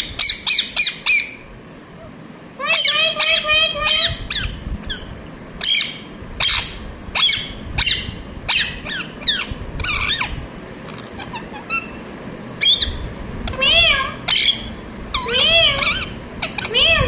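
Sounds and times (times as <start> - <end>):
parrot squawking: 0.0 - 12.0, 12.6 - 17.0.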